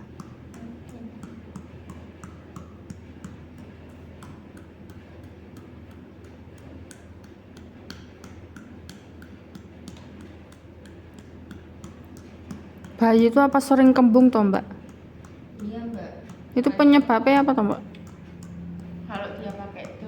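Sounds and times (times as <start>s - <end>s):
light sharp taps: 0.0s - 20.0s
low steady hum: 0.0s - 20.0s.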